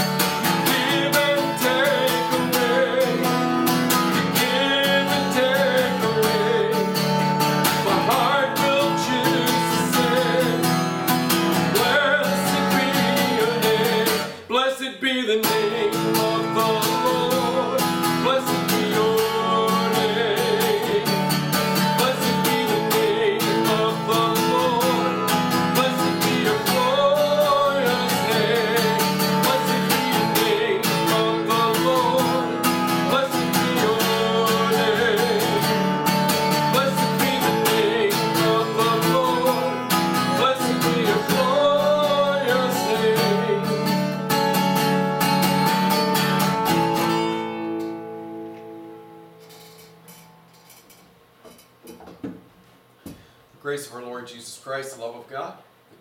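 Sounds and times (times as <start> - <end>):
acoustic guitar music: 0.0 - 52.5.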